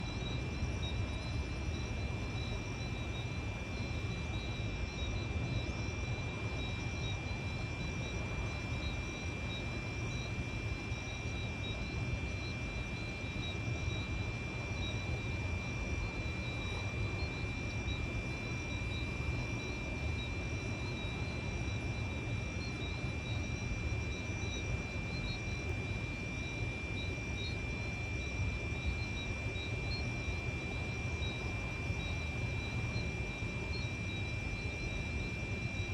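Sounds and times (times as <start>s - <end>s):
insects chorus: 0.0s - 35.9s.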